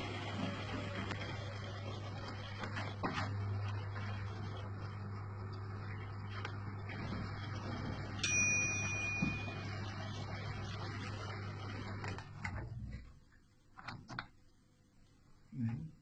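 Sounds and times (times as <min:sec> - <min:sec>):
washing machine humming: 0:00.0 - 0:13.5.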